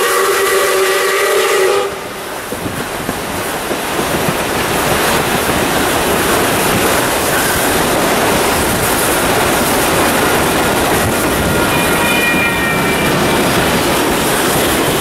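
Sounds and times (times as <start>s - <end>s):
steam train rushing: 0.0s - 15.0s
wind buffeting microphone: 1.9s - 15.0s.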